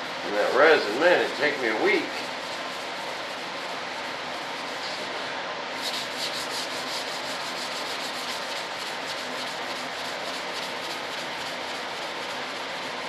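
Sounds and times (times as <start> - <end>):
hand rubbing smooth surface: 2.0 - 13.0.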